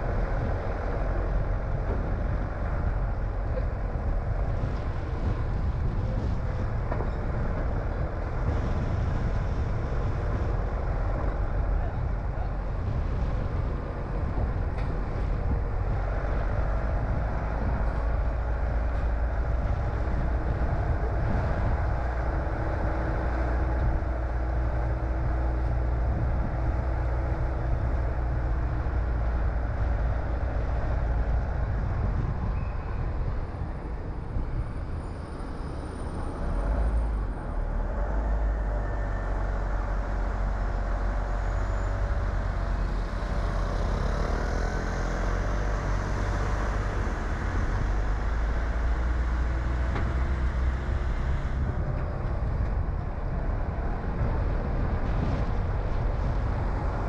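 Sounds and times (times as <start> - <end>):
car engine and tyre road noise: 0.0 - 57.0.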